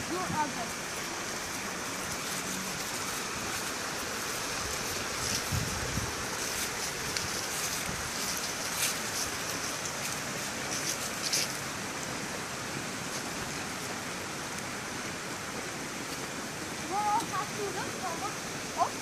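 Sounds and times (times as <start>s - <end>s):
footsteps on grass and leaves: 0.0s - 15.4s
steady rushing wind or water: 0.0s - 19.0s.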